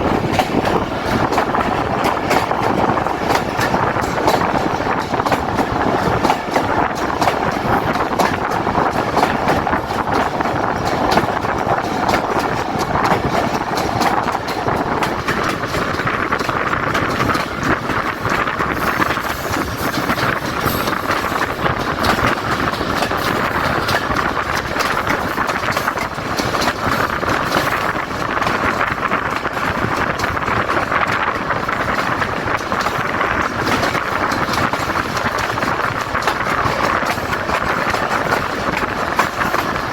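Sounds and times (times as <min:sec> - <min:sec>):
quick clicks from rails: 0:00.0 - 0:39.9
train wheels rumbling and rattling: 0:00.0 - 0:39.9.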